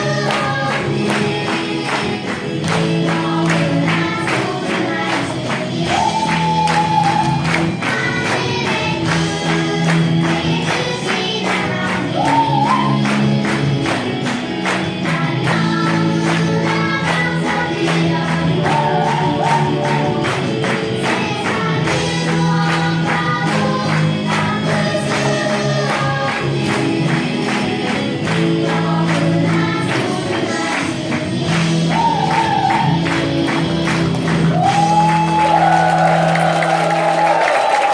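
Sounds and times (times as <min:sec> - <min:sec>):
band accompaniment: 0:00.0 - 0:36.0
group singing gospel: 0:00.0 - 0:37.6.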